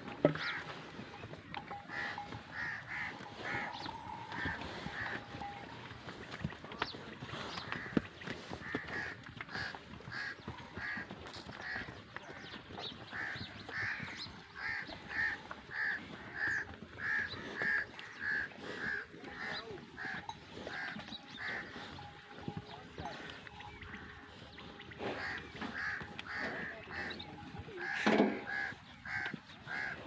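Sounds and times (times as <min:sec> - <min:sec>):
bird calling: 0:00.2 - 0:30.0.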